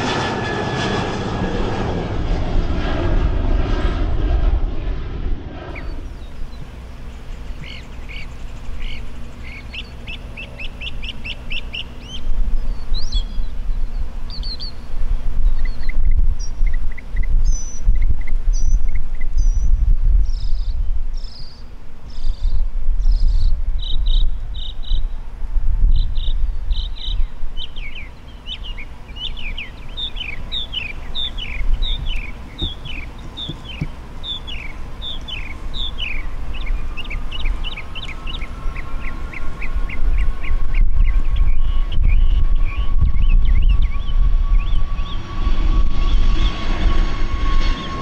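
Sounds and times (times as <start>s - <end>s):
jet engine whine: 0.0s - 48.0s
songbird singing: 5.7s - 25.2s, 25.8s - 46.7s.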